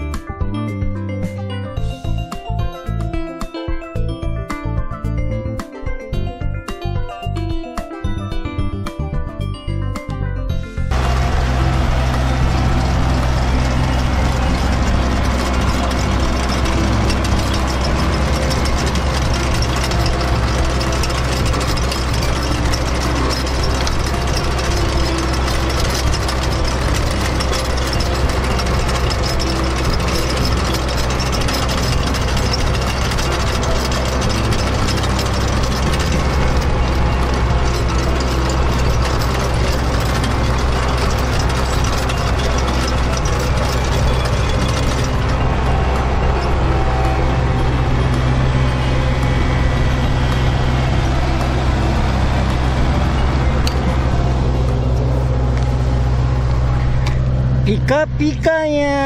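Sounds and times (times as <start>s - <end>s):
tractor diesel engine running: 10.5s - 59.0s
rotor churning soil: 10.9s - 58.5s.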